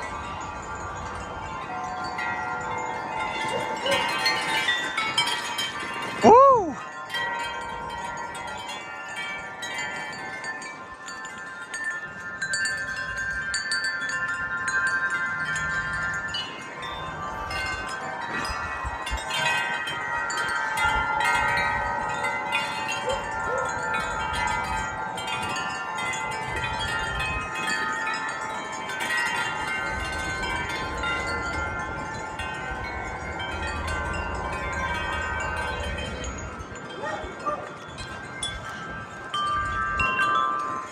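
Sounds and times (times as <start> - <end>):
gusting wind: 0.0 - 40.9
wind chimes ringing: 0.0 - 40.9.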